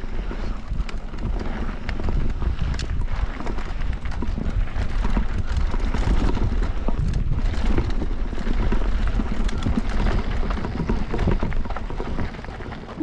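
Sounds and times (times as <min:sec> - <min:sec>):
bike rattling and knocking: 0:00.0 - 0:13.0
tyres rolling over dirt and rock: 0:00.0 - 0:13.0
wind on microphone: 0:00.0 - 0:13.0.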